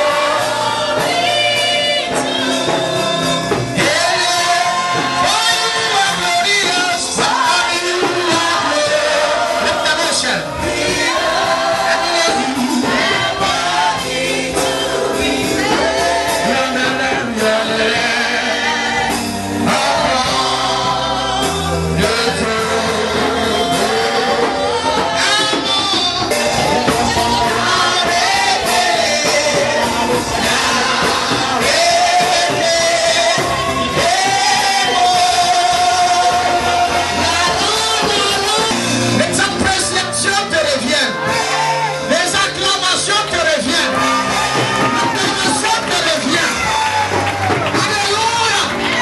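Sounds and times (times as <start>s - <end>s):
amplified music with bass line: 0.0s - 49.0s
congregation singing praise song: 0.0s - 49.0s.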